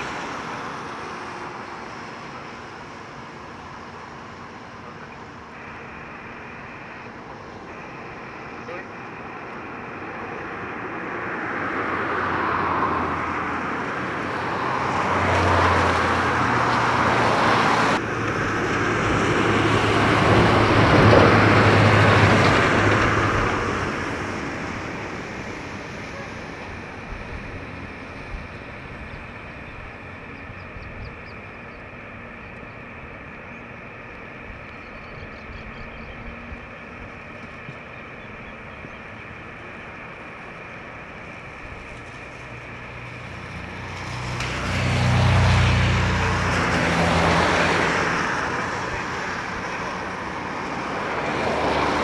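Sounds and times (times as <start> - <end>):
jet engines at high power: 0.0 - 52.0.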